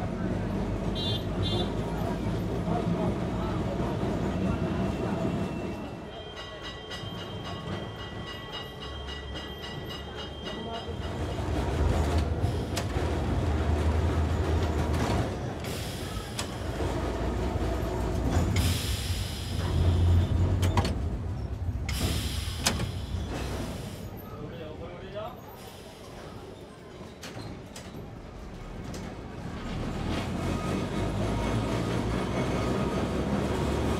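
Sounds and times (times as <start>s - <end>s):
tram wheels rumbling on rail: 0.0s - 33.9s.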